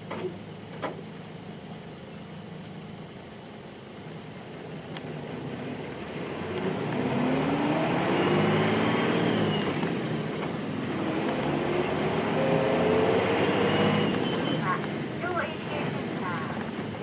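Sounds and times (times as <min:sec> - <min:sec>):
diesel bus engine pulling away: 0:00.0 - 0:17.0.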